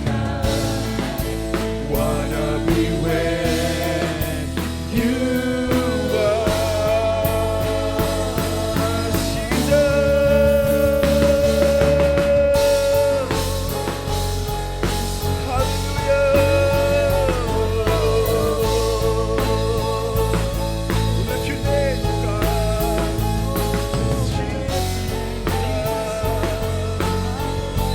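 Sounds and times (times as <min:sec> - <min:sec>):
worship band instrumental: 0:00.0 - 0:27.9.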